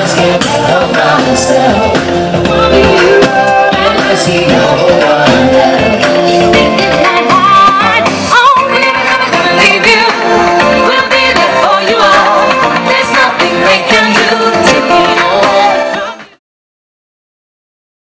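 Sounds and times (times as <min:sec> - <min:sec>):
drums: 0:00.0 - 0:16.4
keyboard: 0:00.0 - 0:16.4
person singing: 0:00.0 - 0:16.4.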